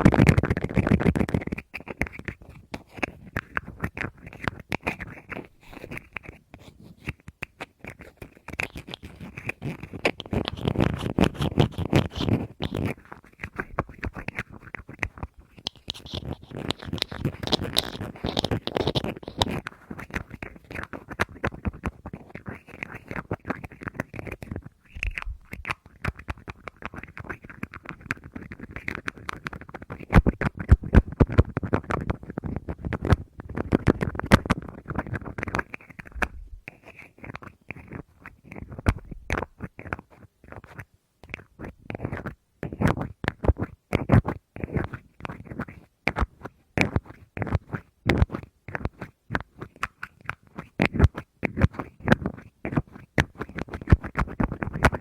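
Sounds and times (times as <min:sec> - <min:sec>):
fingers scratching rustle: 0:00.0 - 0:55.0
fingers tapping on hard object: 0:07.0 - 0:55.0.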